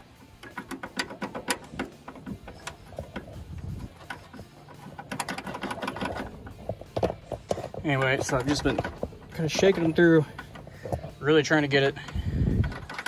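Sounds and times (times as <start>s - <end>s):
metal bolt rattling against plate: 0.0s - 13.0s.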